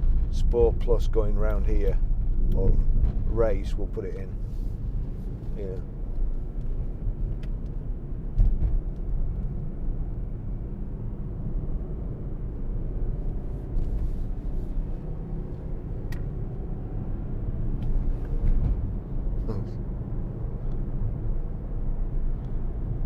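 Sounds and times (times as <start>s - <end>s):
car engine rumble from inside: 0.0s - 23.0s
road noise: 0.0s - 23.0s.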